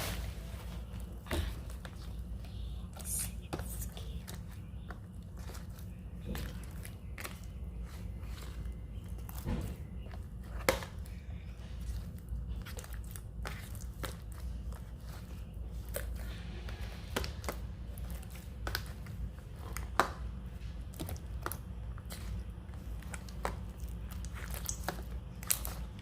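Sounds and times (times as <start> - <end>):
slime squelching: 0.0 - 26.0.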